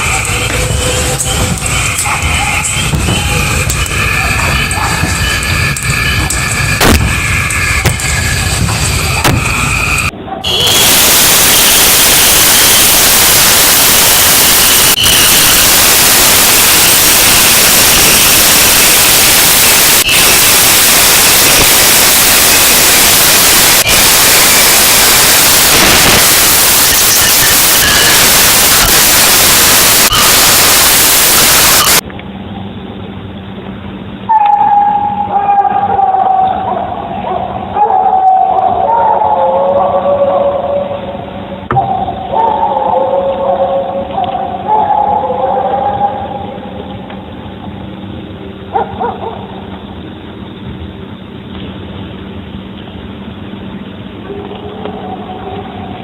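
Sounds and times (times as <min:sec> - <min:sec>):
loud recording noise hiss: 0:00.0 - 0:56.0.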